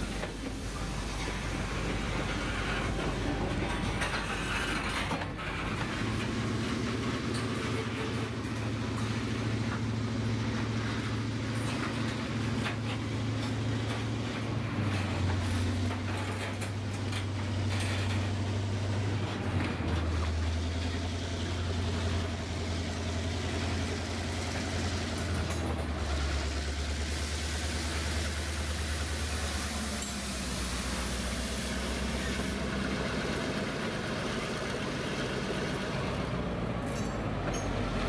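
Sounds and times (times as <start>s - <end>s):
train wheels rumbling on rail: 0.0s - 38.0s
wheels clacking over rail joints: 0.0s - 38.0s.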